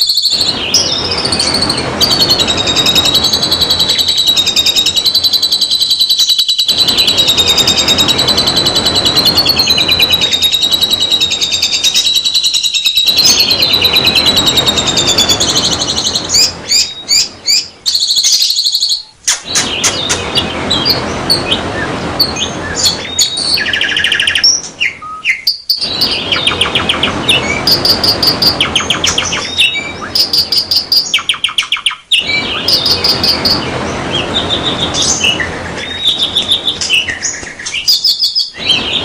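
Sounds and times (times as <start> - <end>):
small bird warbling song: 0.0 - 39.0.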